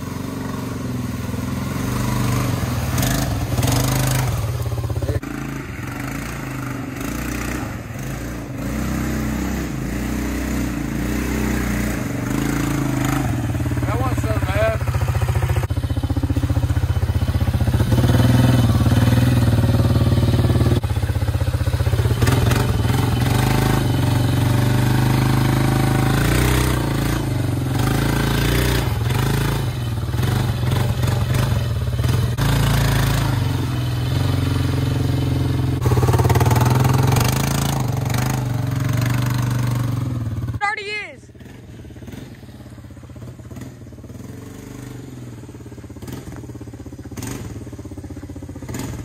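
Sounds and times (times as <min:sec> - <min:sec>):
mud and water splashing: 0:00.0 - 0:39.9
atv engine revving: 0:00.0 - 0:49.0.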